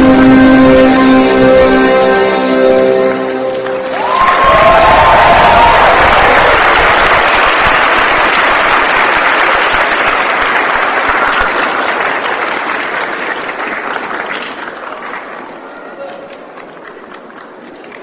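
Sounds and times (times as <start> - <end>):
audience applauding: 3.5 - 18.0.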